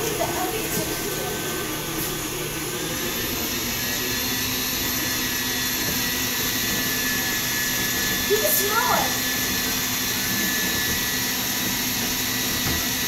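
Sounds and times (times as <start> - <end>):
stand mixer motor whine: 0.0 - 13.0.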